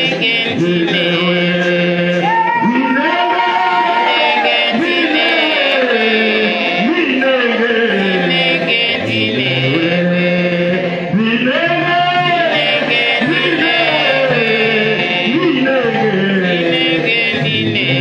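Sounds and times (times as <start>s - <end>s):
man singing into microphone: 0.0s - 18.0s.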